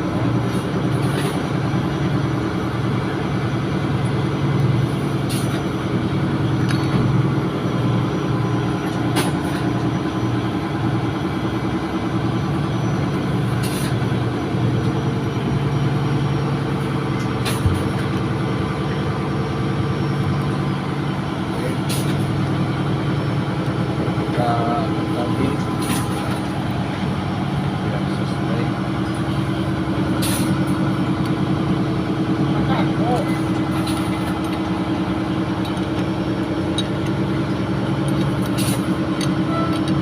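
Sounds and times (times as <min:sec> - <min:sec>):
engine-room machinery droning: 0:00.0 - 0:40.0.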